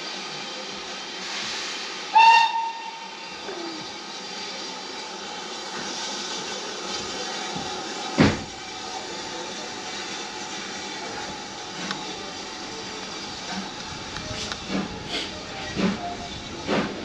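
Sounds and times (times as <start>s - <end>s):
steam train rail noise: 0.0s - 17.0s.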